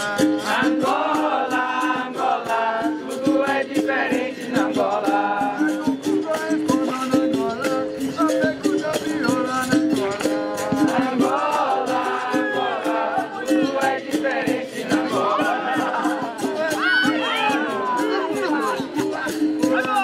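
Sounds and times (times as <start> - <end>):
berimbaus and pandeiros playing: 0.0 - 20.0
hand drum rhythm: 0.0 - 20.0
rattle shaking: 0.0 - 20.0
voices singing: 0.0 - 20.0.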